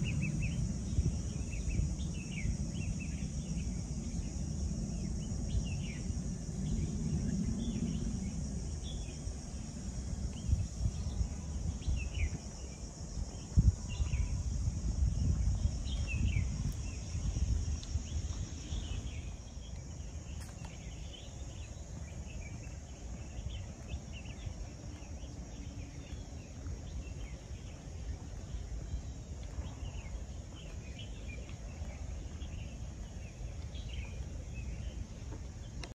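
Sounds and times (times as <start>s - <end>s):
insect drone: 0.0s - 35.9s
low rumble: 0.0s - 35.9s.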